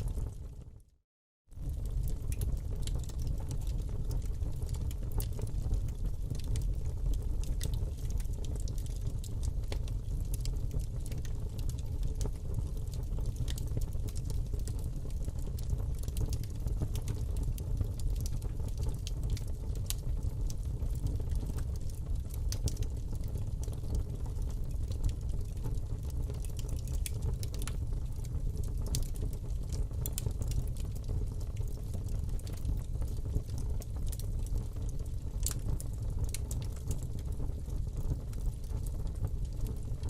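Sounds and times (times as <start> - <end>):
fire crackling and popping: 0.0 - 0.8, 1.6 - 40.0
low rumble of flames: 0.0 - 0.9, 1.5 - 40.0.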